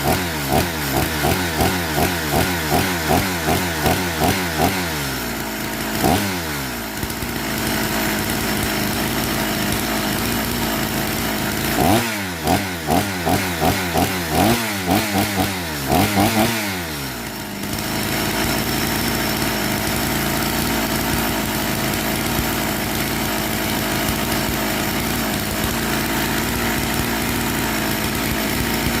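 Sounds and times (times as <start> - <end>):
chainsaw engine revving and idling: 0.0 - 29.0.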